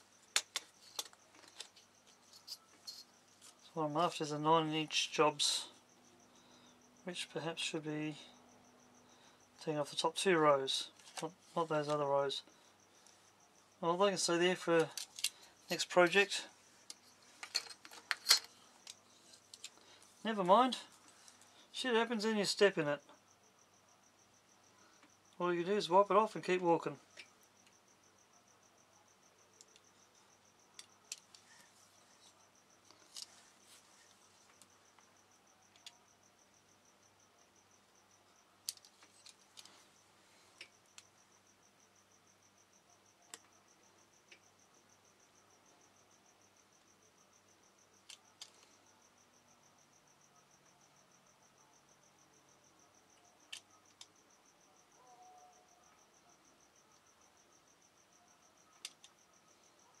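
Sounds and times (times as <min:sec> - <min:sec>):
high pulsing insect-like chirp: 0:00.0 - 1:00.0.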